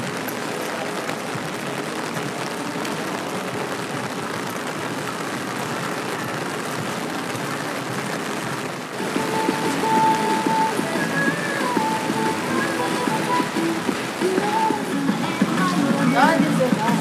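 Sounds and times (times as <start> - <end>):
rain: 0.0 - 17.0
traffic noise: 0.0 - 17.0.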